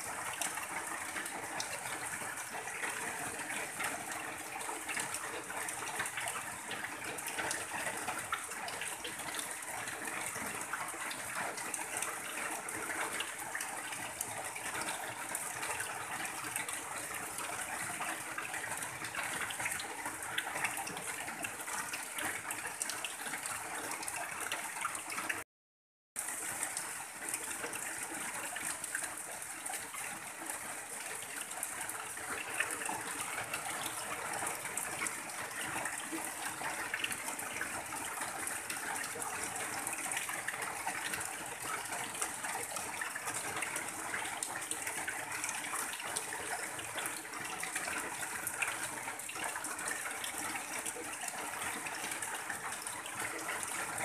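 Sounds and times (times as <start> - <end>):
rain on a tin roof: 0.0 - 25.4, 26.2 - 54.0
runoff pouring off roof: 0.0 - 25.4, 26.2 - 54.0.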